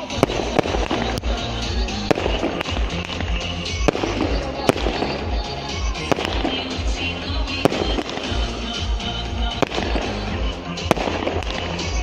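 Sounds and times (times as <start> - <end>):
fireworks bangs: 0.0 - 12.0
music with steady bass: 0.0 - 12.0.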